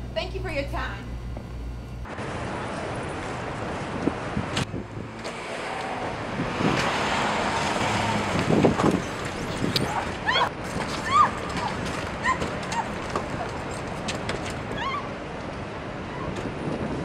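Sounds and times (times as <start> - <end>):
car passing: 2.1 - 16.1.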